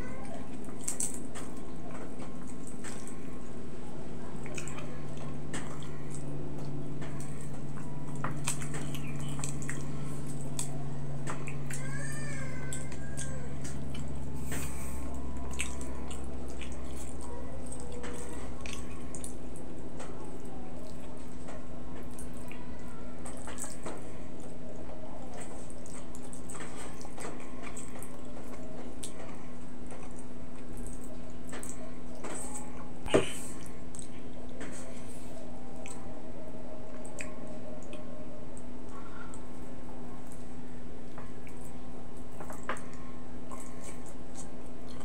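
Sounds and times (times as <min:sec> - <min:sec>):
chewing and wet smacks: 0:04.3 - 0:11.9, 0:12.7 - 0:35.0, 0:35.7 - 0:36.2, 0:36.8 - 0:45.0.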